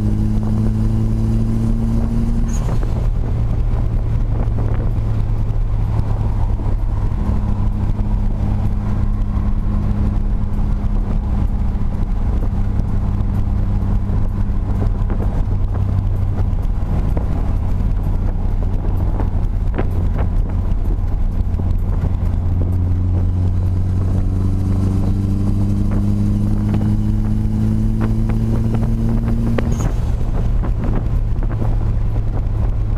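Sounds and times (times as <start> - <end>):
turbocharged car engine drone: 0.0 - 32.9.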